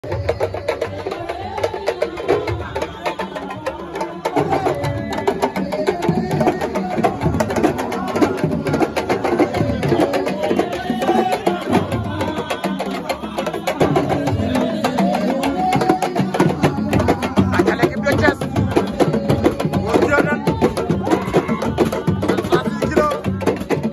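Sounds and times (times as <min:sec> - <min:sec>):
drums in fast rhythm: 0:00.0 - 0:23.9
voices over drums: 0:00.0 - 0:23.9.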